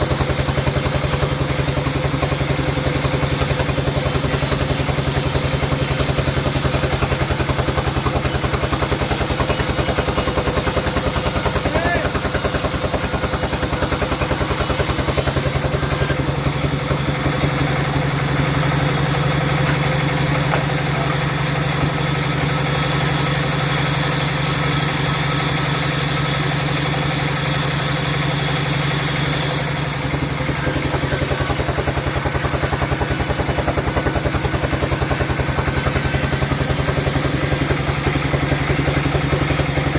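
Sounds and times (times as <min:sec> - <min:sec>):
sawmill machinery pulsing drone: 0:00.0 - 0:39.9.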